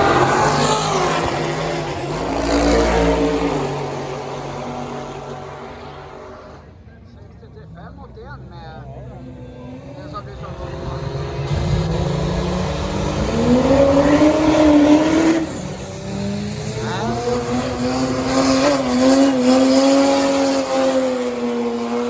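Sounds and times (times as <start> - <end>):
drag racing car accelerating: 0.0 - 22.0.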